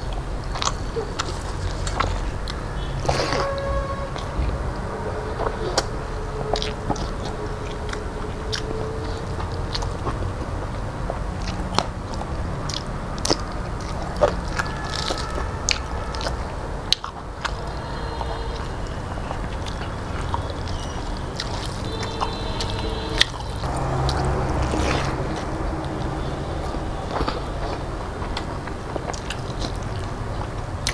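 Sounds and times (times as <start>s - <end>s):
low hum: 0.0s - 11.4s, 13.5s - 30.5s
person chewing with mouth clicks: 5.3s - 17.6s, 18.2s - 30.9s.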